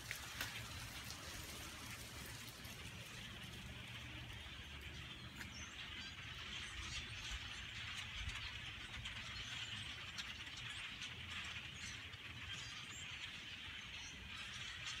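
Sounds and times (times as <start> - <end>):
large flock of birds chirping: 0.0 - 15.0.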